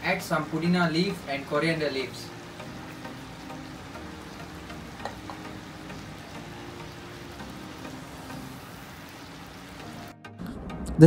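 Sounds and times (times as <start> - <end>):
curry sizzling gently: 0.0 - 10.2.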